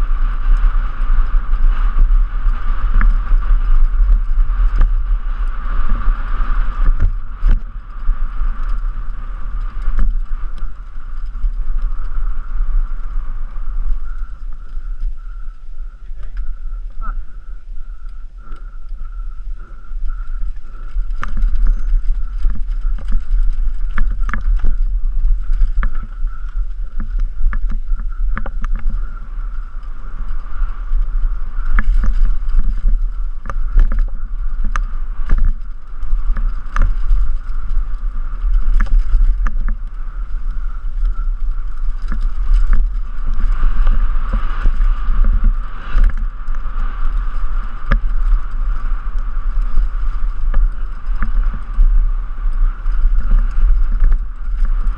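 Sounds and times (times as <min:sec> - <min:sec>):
bike rattling: 0:00.0 - 0:54.9
wind rumble on microphone: 0:00.0 - 0:54.9.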